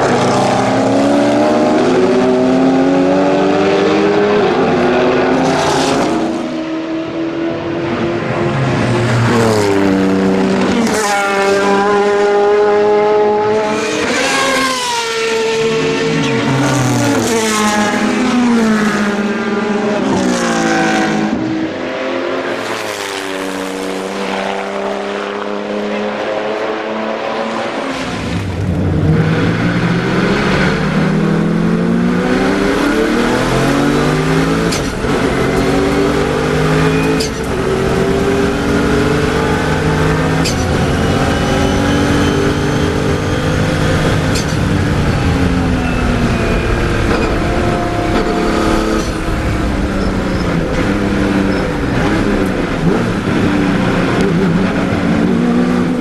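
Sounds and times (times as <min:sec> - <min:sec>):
racing car engine: 0:00.0 - 0:56.0.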